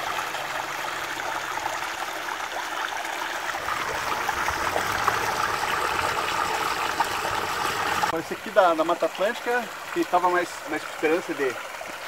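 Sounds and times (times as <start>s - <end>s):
water pouring from spout: 0.0s - 12.0s
water splashing into stream: 0.0s - 12.0s.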